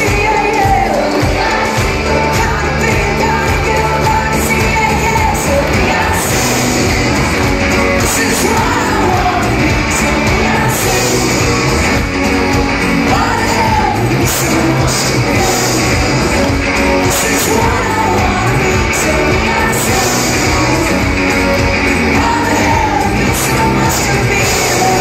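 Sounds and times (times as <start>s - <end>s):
pop-rock band playing: 0.0s - 25.0s
woman singing: 0.0s - 25.0s.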